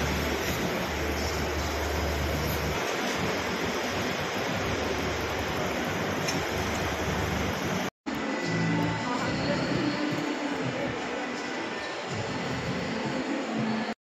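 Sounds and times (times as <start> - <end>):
rushing hall background noise: 0.0 - 14.0.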